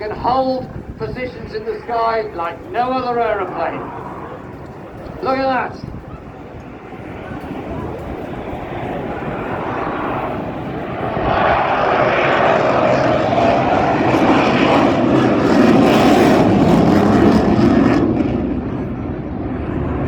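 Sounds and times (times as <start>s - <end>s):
jet engines flying past: 0.0s - 20.0s.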